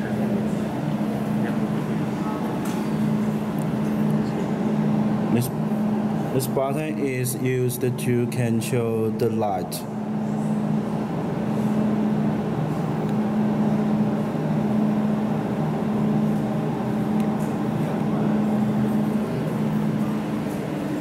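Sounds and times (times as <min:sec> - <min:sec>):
laser welding machine humming: 0:00.0 - 0:21.0.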